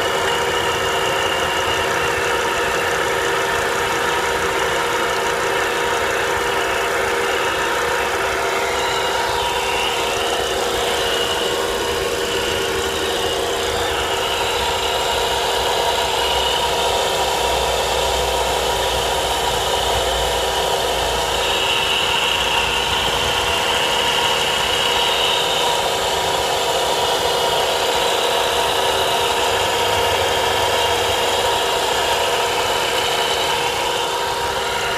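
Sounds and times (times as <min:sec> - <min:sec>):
car engine idling: 0:00.0 - 0:34.9
whining tones: 0:00.0 - 0:34.9.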